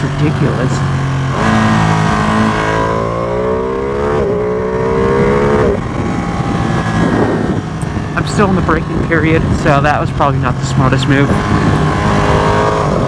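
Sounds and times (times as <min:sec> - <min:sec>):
motorcycle engine running hard: 0:00.0 - 0:13.0
wind noise on microphone: 0:01.2 - 0:13.0.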